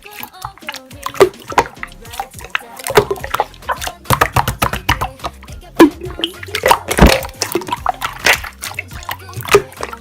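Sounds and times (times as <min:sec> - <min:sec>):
background music: 0:00.0 - 0:10.0
slime squeezed wet clicks: 0:00.0 - 0:10.0.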